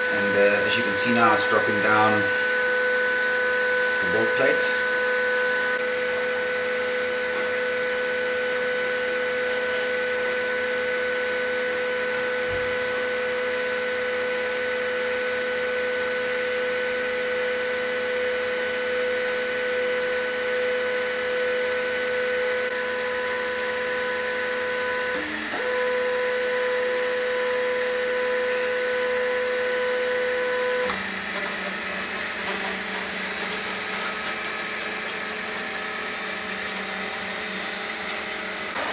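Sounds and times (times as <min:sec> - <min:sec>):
stepper motor whine: 0:00.0 - 0:38.9.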